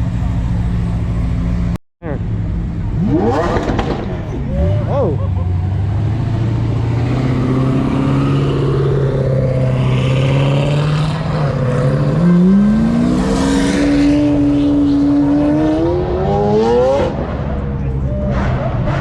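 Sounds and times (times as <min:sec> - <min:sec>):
car engine revving: 0:02.4 - 0:19.0.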